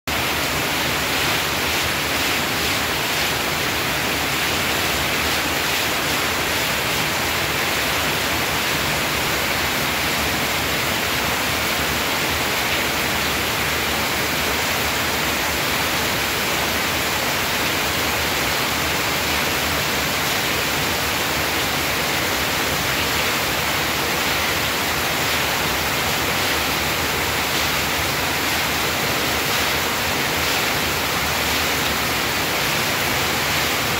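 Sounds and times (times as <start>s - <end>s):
heavy rain splashing on concrete: 0.1s - 33.9s.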